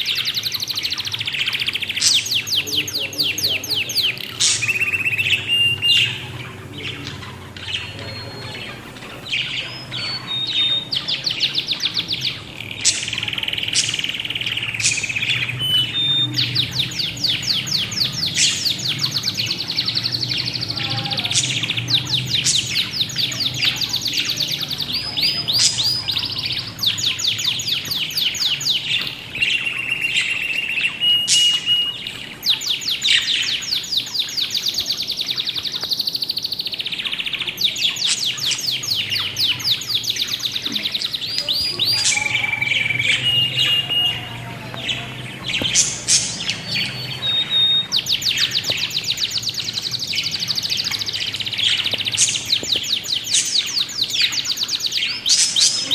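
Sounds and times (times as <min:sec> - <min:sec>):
budgerigars chirping: 0:00.0 - 0:55.9.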